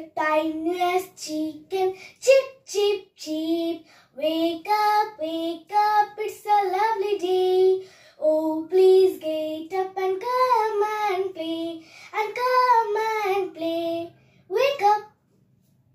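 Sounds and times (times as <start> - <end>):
girl singing: 0.0 - 15.2.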